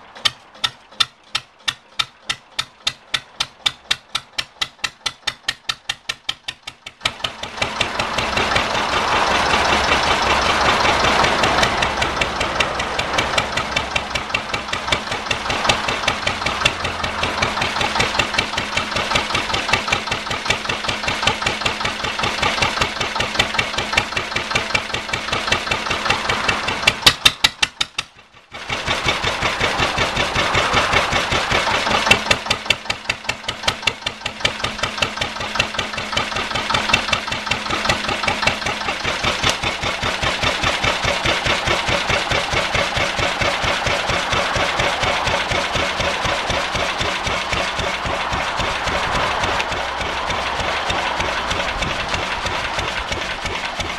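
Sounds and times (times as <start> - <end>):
diesel engine knocking: 0.0 - 53.9.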